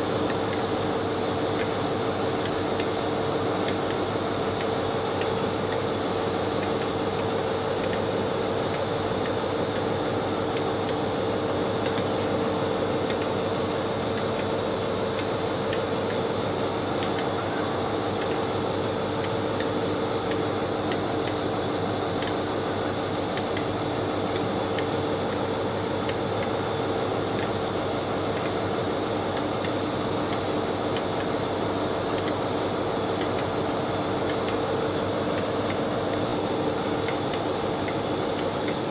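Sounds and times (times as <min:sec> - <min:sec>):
train equipment humming: 0:00.0 - 0:38.9.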